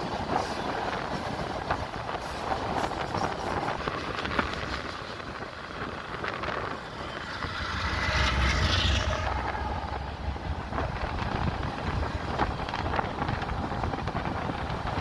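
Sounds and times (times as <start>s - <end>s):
diesel locomotive engine drone: 0.0s - 15.0s
steel wheels clattering on rail: 0.0s - 15.0s
wind buffeting microphone: 0.0s - 15.0s.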